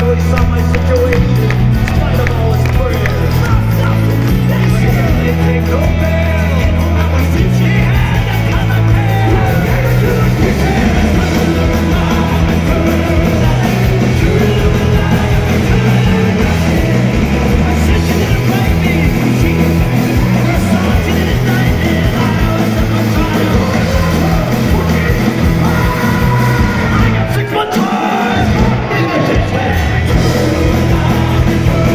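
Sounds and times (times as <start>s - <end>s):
bass guitar: 0.0s - 31.9s
drums: 0.0s - 31.9s
electric guitar: 0.0s - 31.9s
singer shouting vocals: 0.0s - 31.9s.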